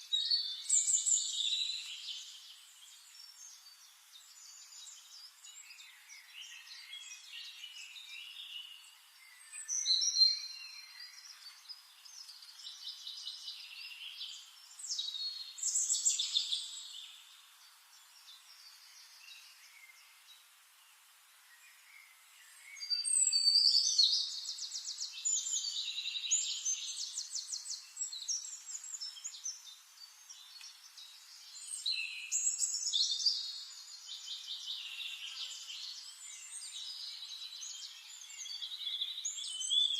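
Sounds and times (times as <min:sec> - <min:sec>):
faint hiss: 0:00.0 - 0:39.9
songbirds singing with trills: 0:00.0 - 0:39.9.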